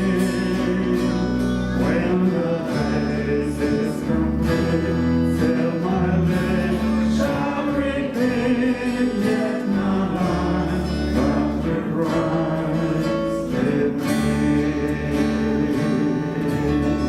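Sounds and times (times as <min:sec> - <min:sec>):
acoustic guitar strumming: 0:00.0 - 0:17.0
bass: 0:00.0 - 0:17.0.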